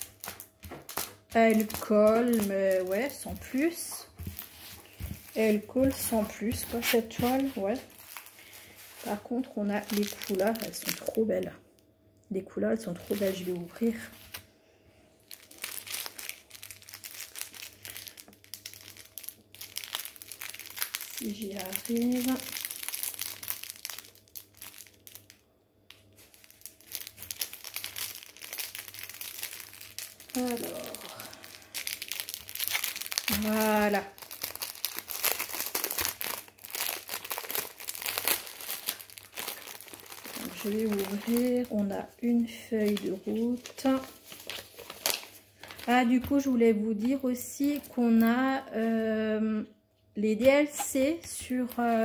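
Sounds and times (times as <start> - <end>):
plastic bag crinkling: 0.0 - 11.6, 12.6 - 14.5, 15.2 - 49.0, 50.6 - 52.0.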